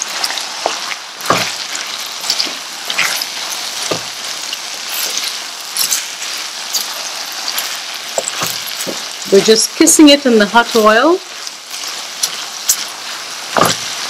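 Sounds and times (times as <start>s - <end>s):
vegetables sizzling in hot oil: 0.0s - 14.0s
wooden spoon scraping a pan: 0.0s - 14.0s.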